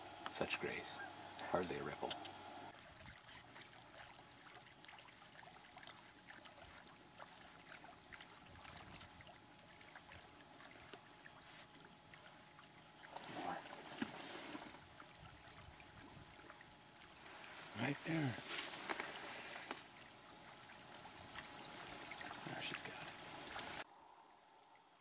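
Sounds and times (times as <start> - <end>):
water trickling and lapping: 0.1 - 23.9.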